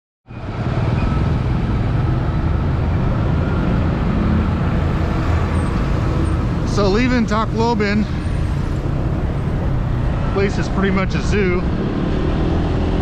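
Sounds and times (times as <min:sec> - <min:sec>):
road and wind noise: 0:00.2 - 0:13.0.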